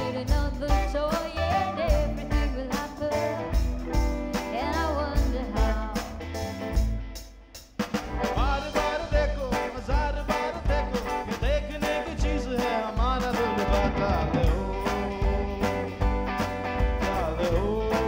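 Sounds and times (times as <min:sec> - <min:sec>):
band playing a song: 0:00.0 - 0:18.0.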